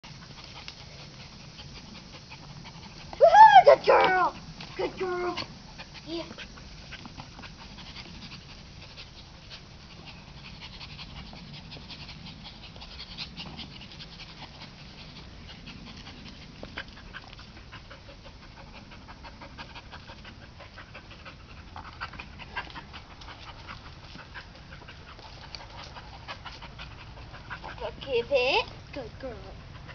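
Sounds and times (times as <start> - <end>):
dog panting: 0.0 - 29.9.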